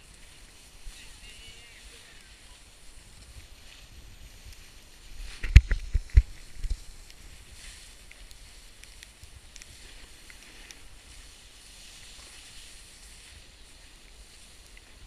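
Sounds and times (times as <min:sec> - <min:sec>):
snowboard sliding on snow: 0:00.0 - 0:15.0.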